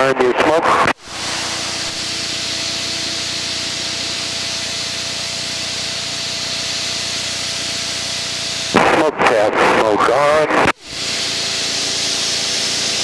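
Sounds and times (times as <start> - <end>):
propeller aircraft engine drone: 0.0 - 13.0
airflow rushing hiss: 0.9 - 9.9, 10.5 - 13.0.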